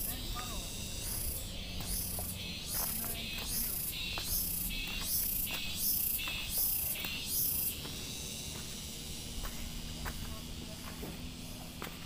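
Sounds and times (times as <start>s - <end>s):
insects chirping in pulses: 0.0s - 12.0s
steady high insect hiss: 0.0s - 12.0s.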